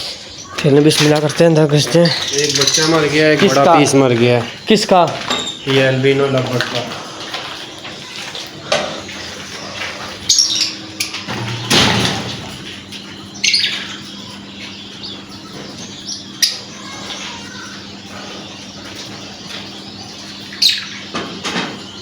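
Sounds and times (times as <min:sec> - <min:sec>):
lovebirds chirping: 0:00.0 - 0:22.0
steady low hum: 0:00.0 - 0:22.0.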